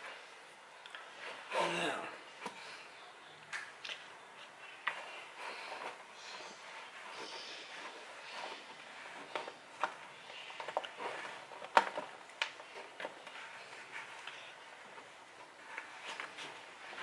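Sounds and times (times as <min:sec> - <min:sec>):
hands kneading dough: 0:00.0 - 0:17.0.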